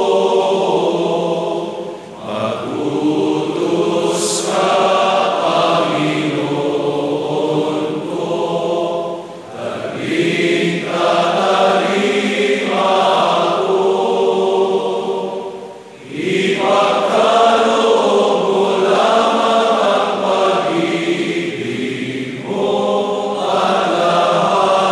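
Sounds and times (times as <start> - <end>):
choir singing slow chant: 0.0 - 24.9.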